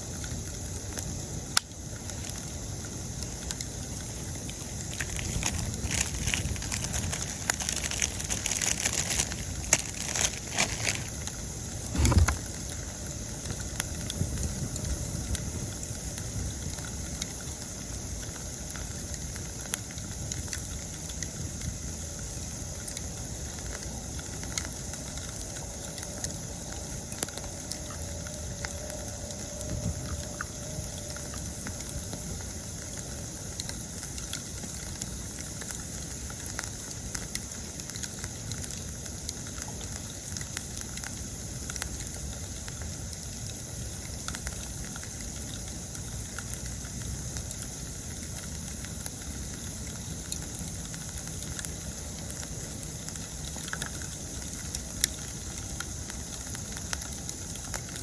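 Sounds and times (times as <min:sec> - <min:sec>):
insects chirping: 0:00.0 - 0:58.0
campfire crackling and popping: 0:00.1 - 0:58.0.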